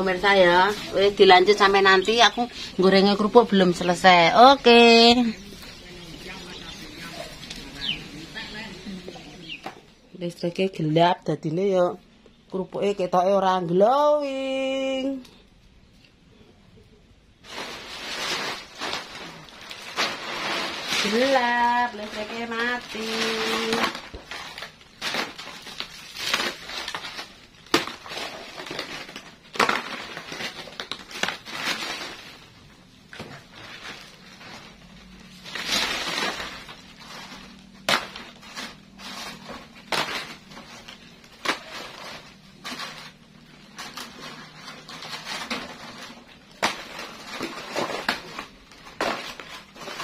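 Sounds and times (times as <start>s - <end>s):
plastic bag crinkling: 0.0s - 9.5s, 17.4s - 50.0s
crackers crackling and rattling: 0.0s - 10.4s, 17.3s - 50.0s.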